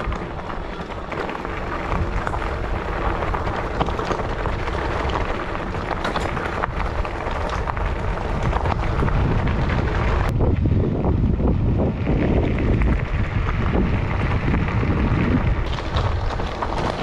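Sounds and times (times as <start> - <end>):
bike tires crunching gravel: 0.0 - 17.0
wind rumble on microphone: 0.0 - 17.0.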